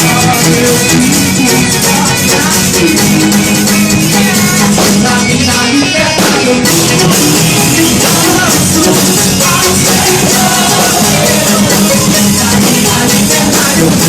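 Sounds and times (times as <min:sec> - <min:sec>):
drum kit: 0:00.0 - 0:14.0
guitar: 0:00.0 - 0:14.0
person singing: 0:00.0 - 0:14.0.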